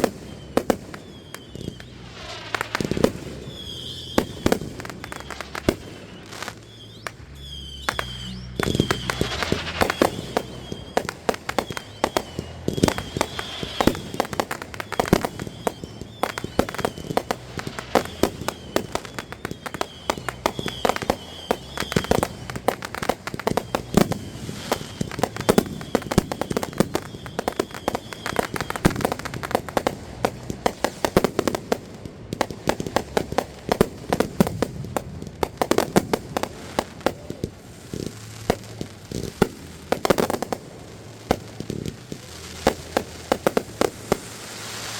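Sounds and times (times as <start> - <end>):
fireworks cracking and popping: 0.0 - 44.9
fireworks high whistle: 0.0 - 44.9.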